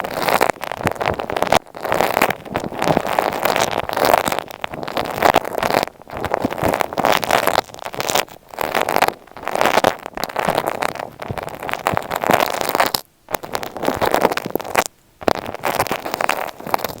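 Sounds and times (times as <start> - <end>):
crackling scratching on microphone: 0.0 - 17.0.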